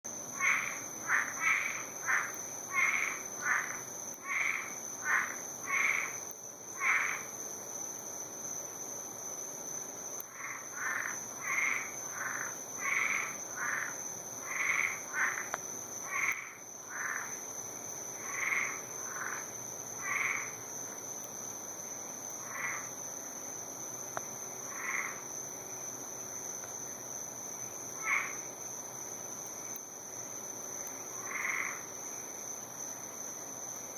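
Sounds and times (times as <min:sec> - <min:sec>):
frogs croaking: 0:00.1 - 0:07.8, 0:10.1 - 0:33.9.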